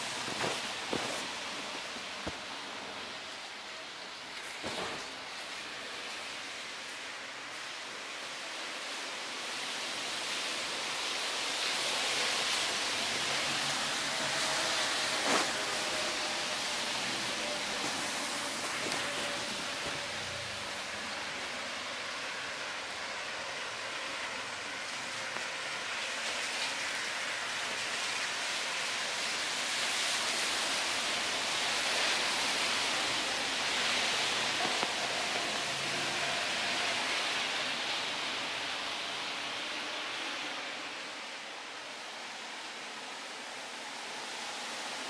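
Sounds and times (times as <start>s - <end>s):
steady rushing hiss: 0.0s - 45.0s.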